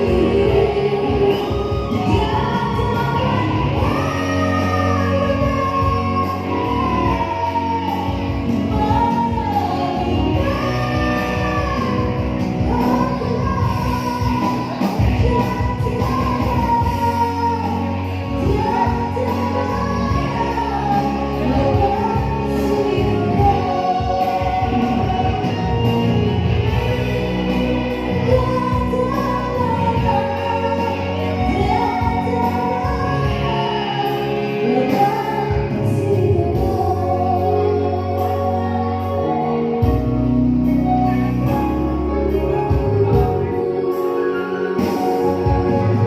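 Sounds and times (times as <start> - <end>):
musical accompaniment: 0.0 - 46.0
woman singing: 0.0 - 46.0.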